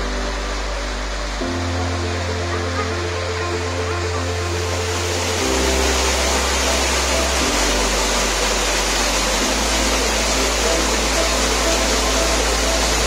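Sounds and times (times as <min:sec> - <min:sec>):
low bass music: 0:00.0 - 0:13.0
waterfall rushing: 0:00.0 - 0:13.0.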